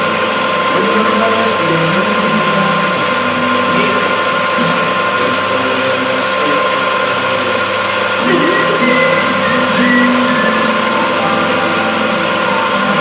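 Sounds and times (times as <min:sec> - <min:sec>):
faint voices: 0:00.0 - 0:13.0
machine running with whine: 0:00.0 - 0:13.0.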